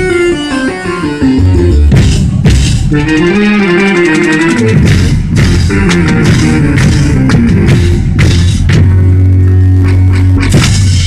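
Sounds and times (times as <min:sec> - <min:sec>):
band playing loudly: 0:00.0 - 0:11.0
drum strikes: 0:01.5 - 0:11.0.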